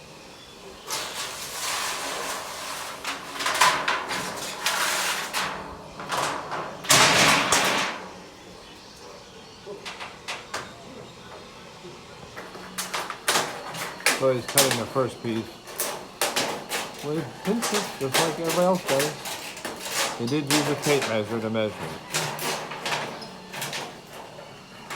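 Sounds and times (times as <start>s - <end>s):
sheet metal scraping and rattling: 0.9s - 11.6s, 12.3s - 24.9s.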